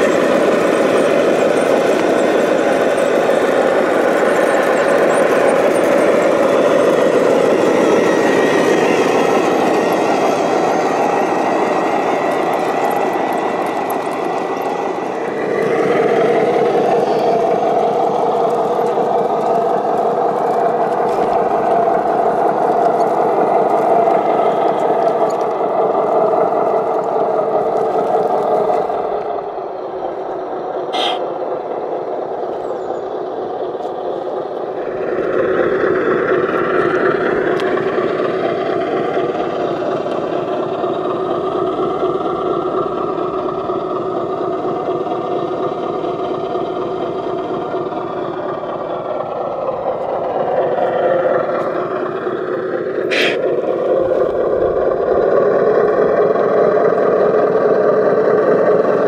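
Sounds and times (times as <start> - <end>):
model truck motor whirr: 0.0 - 59.0.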